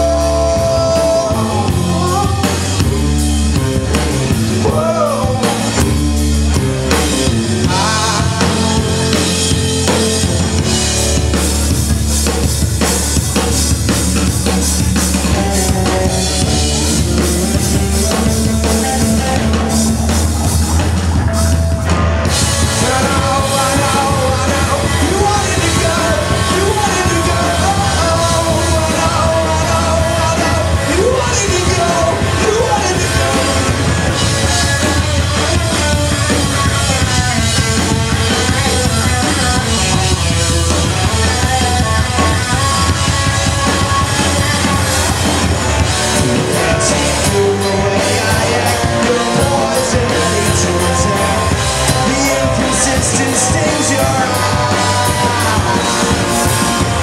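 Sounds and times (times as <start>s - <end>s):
person singing: 0.0s - 3.2s, 4.5s - 11.2s, 15.1s - 57.0s
live rock band: 0.0s - 57.0s.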